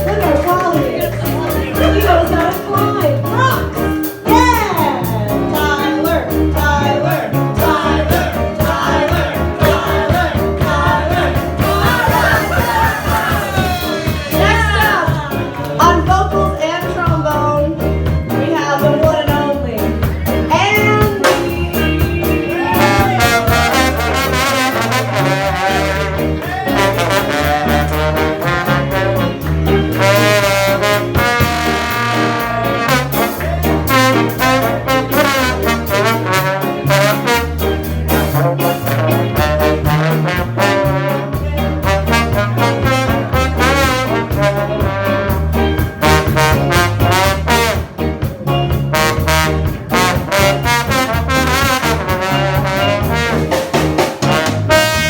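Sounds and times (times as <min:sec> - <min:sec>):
horns playing melodic lines: 0:00.0 - 0:16.8, 0:19.8 - 0:55.0
bass line: 0:00.0 - 0:55.0
drums: 0:00.0 - 0:55.0.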